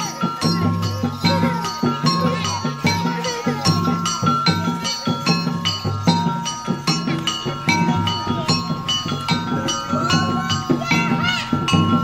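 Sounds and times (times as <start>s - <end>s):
mallet-struck percussion ringing: 0.0s - 12.0s.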